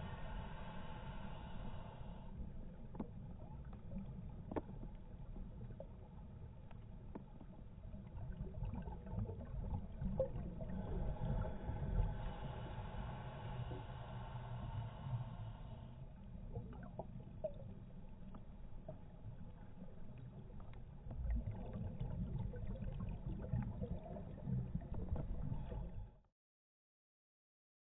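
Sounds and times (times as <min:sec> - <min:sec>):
underwater rumble of water: 0:00.0 - 0:26.3.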